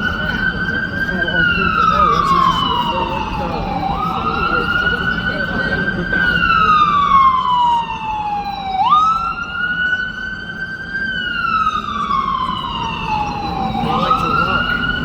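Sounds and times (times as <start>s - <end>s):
emergency vehicle siren wailing: 0.0s - 15.0s.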